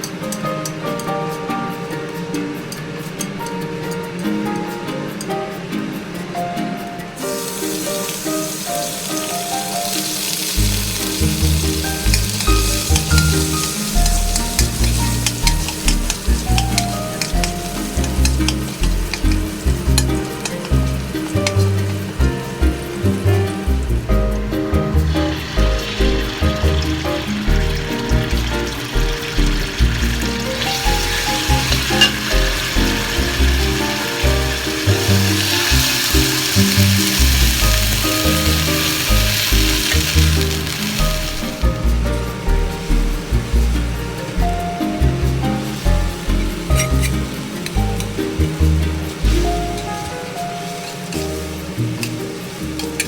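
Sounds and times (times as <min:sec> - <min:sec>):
background music: 0:00.0 - 0:53.0
food sizzling in a pan: 0:07.2 - 0:53.0.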